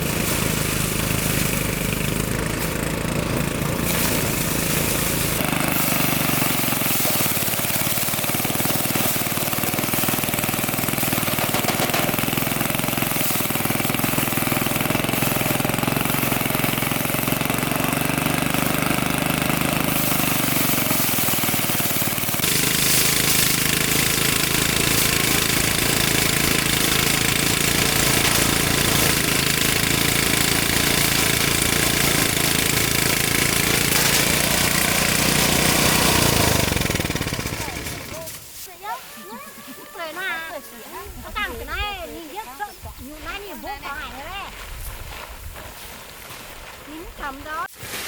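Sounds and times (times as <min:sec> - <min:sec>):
harvester engine running: 0:00.0 - 0:38.6.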